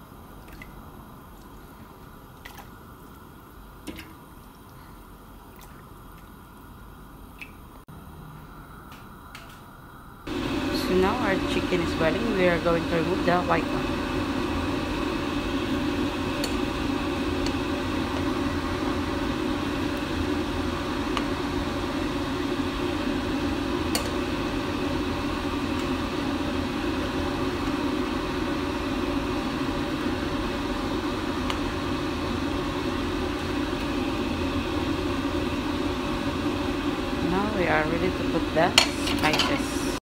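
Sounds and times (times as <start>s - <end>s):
water boiling in a pan: 0.0s - 7.8s, 10.2s - 40.0s.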